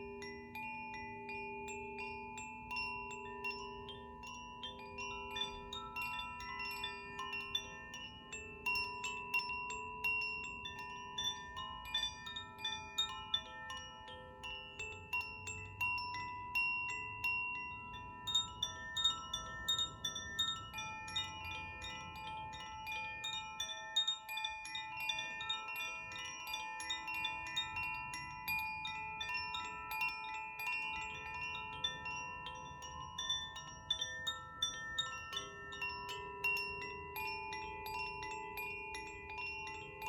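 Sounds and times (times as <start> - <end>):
chimes ringing: 0.0 - 40.0.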